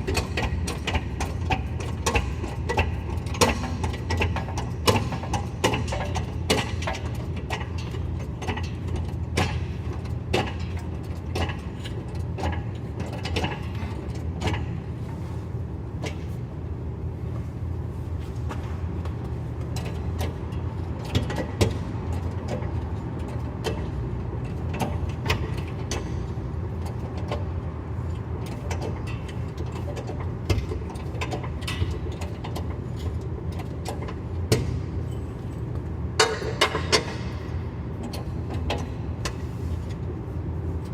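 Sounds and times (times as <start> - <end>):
sharp clicks and knocks: 0.0 - 14.9, 18.4 - 40.1
road and drivetrain rumble: 0.0 - 40.9.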